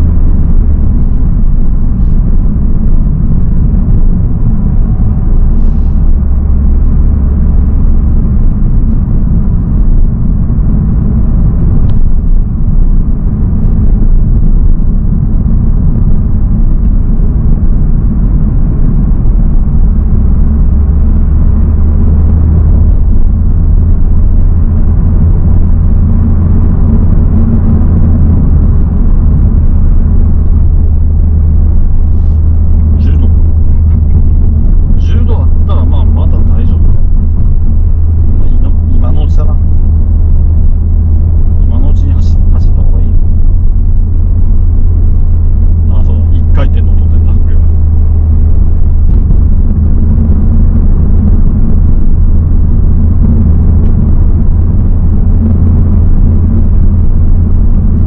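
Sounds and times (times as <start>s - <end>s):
car engine and road noise rumble: 0.0s - 58.0s.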